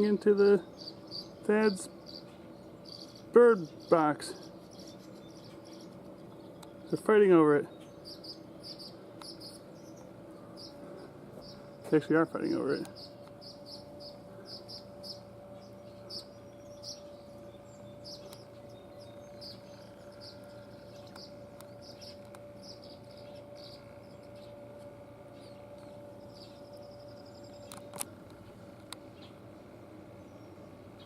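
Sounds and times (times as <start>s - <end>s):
steady hum: 0.0s - 31.0s
swallows chirping: 0.0s - 31.0s.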